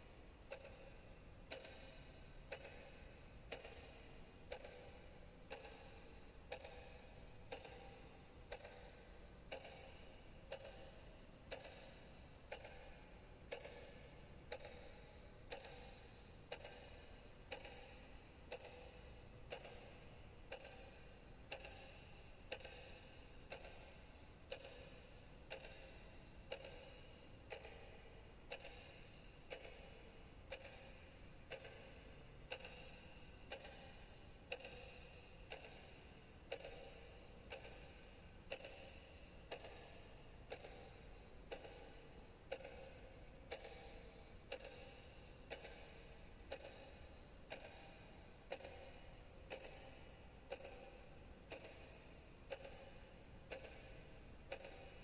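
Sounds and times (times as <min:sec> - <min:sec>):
clock ticking: 0:00.0 - 0:55.0.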